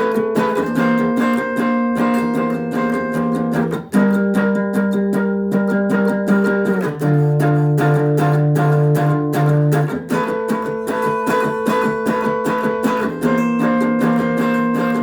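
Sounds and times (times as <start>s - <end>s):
guitar picking over chords: 0.0s - 15.0s.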